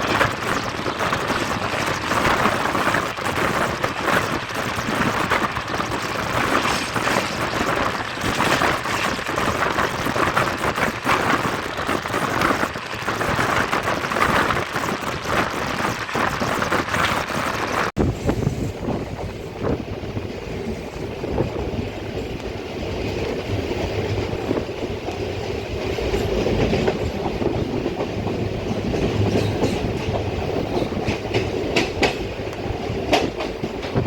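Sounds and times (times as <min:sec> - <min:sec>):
train wheels clattering on rails: 0:00.0 - 0:34.0.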